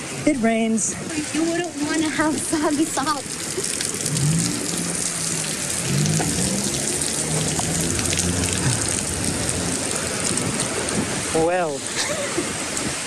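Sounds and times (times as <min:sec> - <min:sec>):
rain on pavement: 0:00.0 - 0:13.0.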